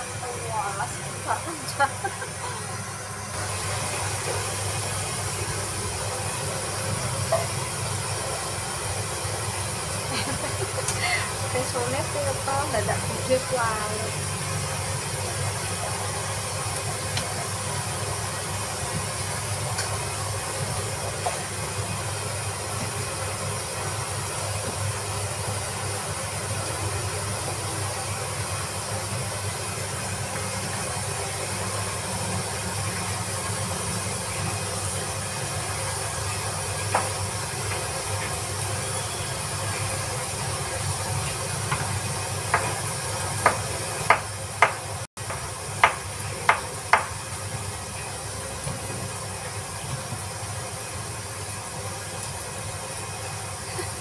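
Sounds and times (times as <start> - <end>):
kitchen equipment hiss and hum: 0.0 - 54.0.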